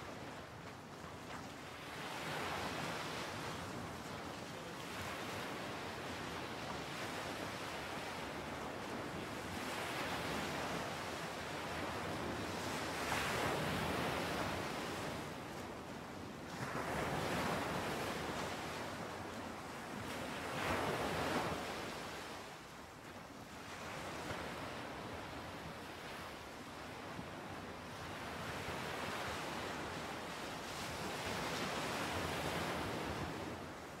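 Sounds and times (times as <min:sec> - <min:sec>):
waves breaking on shore: 0:00.0 - 0:34.0.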